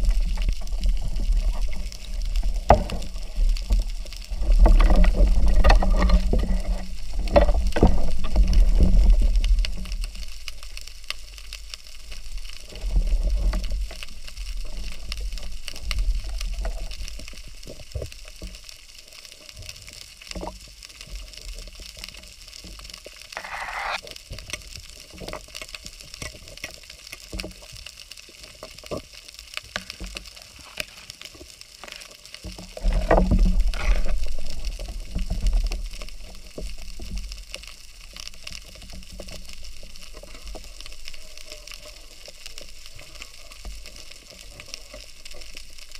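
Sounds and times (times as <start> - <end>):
water turbulence against housing: 0.0 - 24.1, 28.8 - 45.9
underwater clicking crackle: 0.0 - 45.9.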